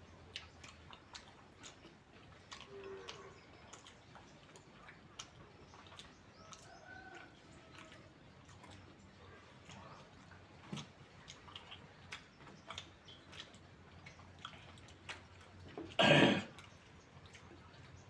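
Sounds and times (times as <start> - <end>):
chewing: 0.0 - 18.0.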